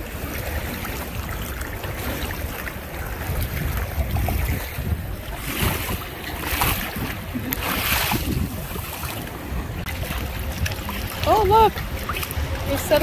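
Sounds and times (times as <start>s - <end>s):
water splashing around kayak: 0.0s - 13.0s
wind rumble on microphone: 0.0s - 13.0s.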